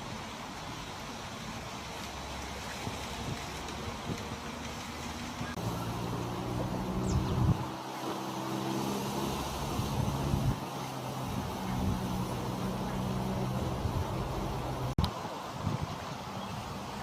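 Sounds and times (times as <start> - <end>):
background traffic noise: 0.0 - 17.0
vehicle engine hum: 0.2 - 15.2.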